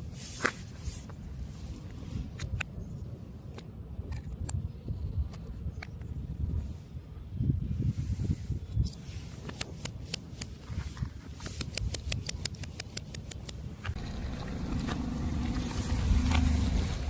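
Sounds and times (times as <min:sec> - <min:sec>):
car tyres and engine: 0:00.0 - 0:17.0.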